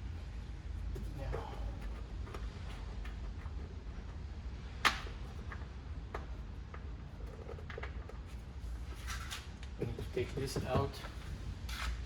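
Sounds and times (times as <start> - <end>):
low steady rumble: 0.0 - 11.8.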